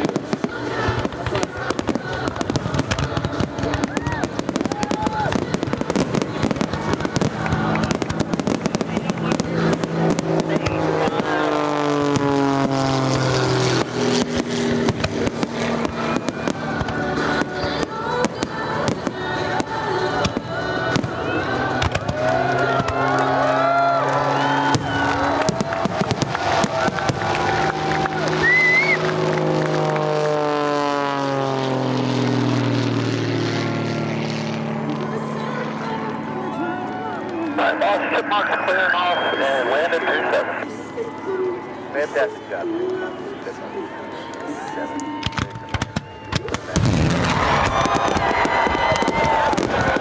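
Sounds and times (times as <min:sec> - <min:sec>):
fireworks bursting: 0:00.0 - 0:36.7, 0:45.0 - 0:50.0
droning tone sliding lower: 0:00.0 - 0:47.8
propeller aircraft flying past: 0:00.0 - 0:50.0.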